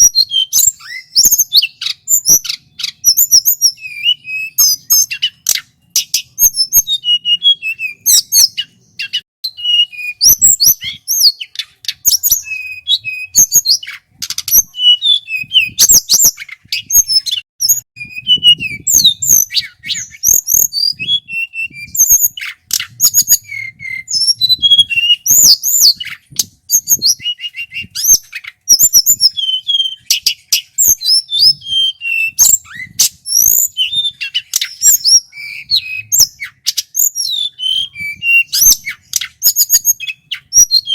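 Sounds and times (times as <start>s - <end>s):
flycatcher singing: 0.0s - 40.9s.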